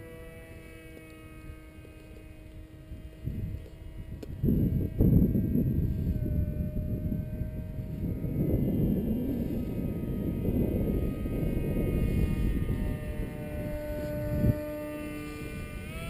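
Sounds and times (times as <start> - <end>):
model jet motor whining: 0.0 - 16.0
wind rumble on microphone: 0.0 - 16.0.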